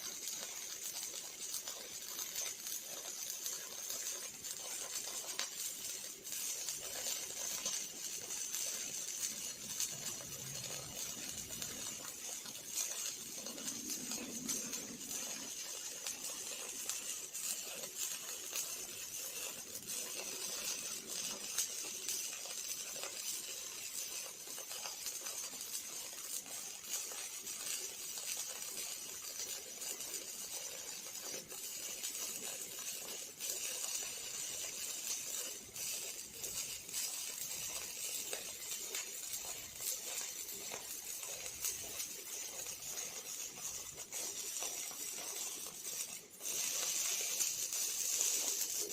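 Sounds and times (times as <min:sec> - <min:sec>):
welding arc crackling and hissing: 0:00.0 - 0:48.9.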